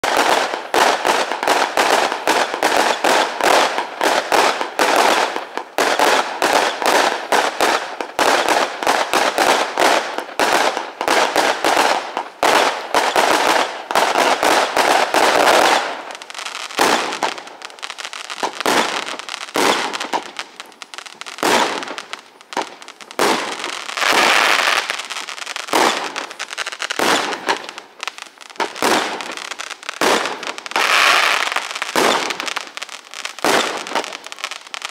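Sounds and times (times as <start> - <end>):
fireworks bangs: 0.0 - 34.9.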